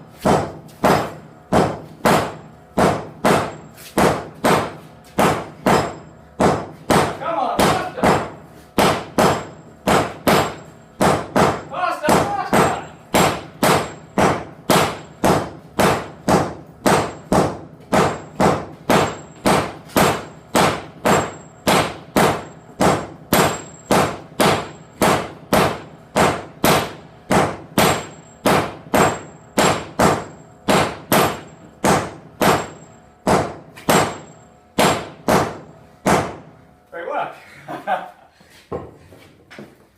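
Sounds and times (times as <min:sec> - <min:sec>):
hammer striking steel on anvil: 0:00.0 - 0:36.6.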